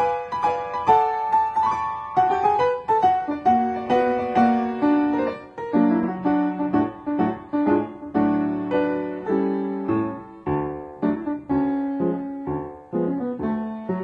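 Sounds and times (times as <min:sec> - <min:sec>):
lively piano music: 0:00.0 - 0:14.0.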